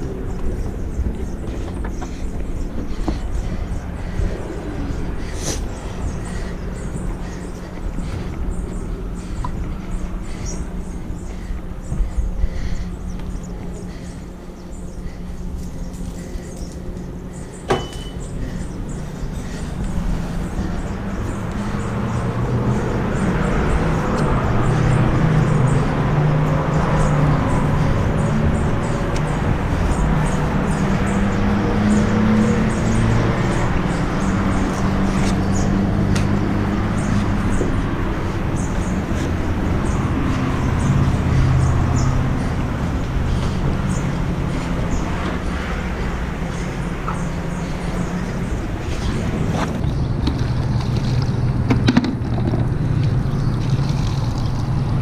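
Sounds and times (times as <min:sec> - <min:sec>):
car engine while driving: 0:00.0 - 0:55.0
road noise: 0:00.0 - 0:55.0.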